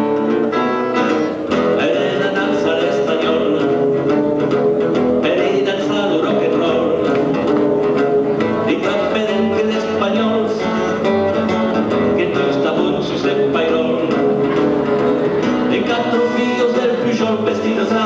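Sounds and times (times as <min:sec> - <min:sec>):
strummed acoustic guitar: 0:00.0 - 0:18.0
upright double bass: 0:00.0 - 0:18.0
man singing: 0:01.5 - 0:04.2, 0:05.2 - 0:14.8, 0:15.4 - 0:18.0.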